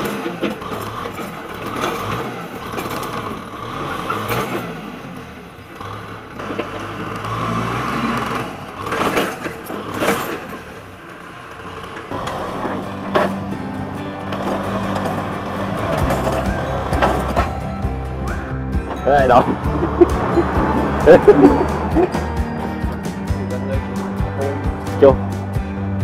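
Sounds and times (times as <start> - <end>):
tractor engine running under load: 0.0 - 26.0.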